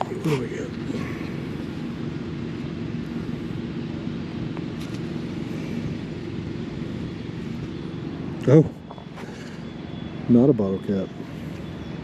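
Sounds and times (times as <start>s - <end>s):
distant engine drone: 0.0s - 12.0s.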